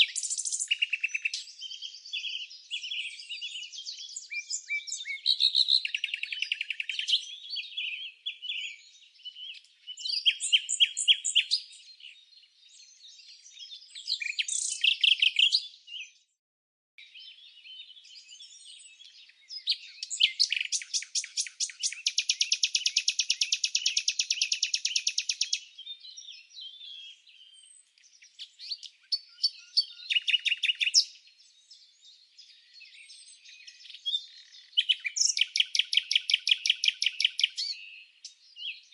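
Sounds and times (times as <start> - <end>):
songbirds chirping: 0.0 - 16.4, 17.0 - 38.9.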